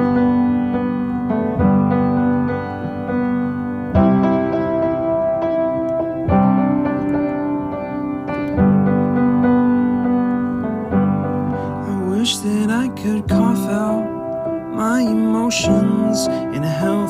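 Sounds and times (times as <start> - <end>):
sustained piano chords: 0.0 - 17.0.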